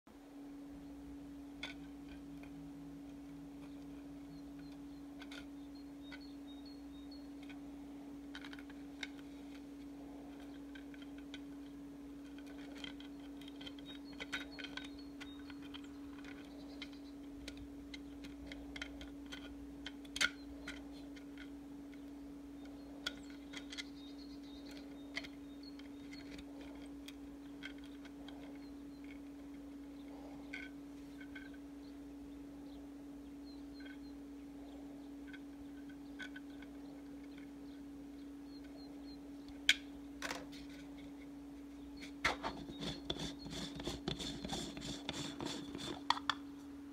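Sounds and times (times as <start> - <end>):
steady low hum: 0.1 - 46.9
plastic parts clicking and rubbing: 1.6 - 31.8, 33.5 - 46.6.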